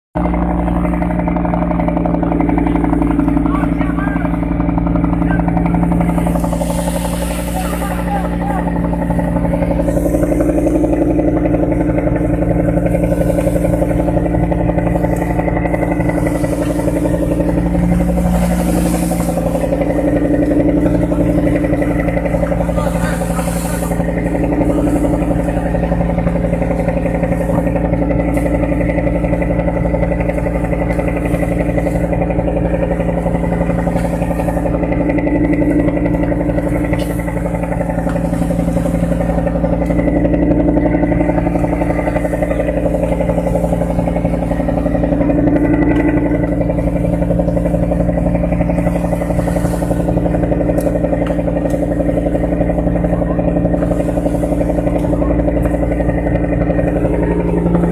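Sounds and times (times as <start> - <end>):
boat engine running: 0.0 - 57.9.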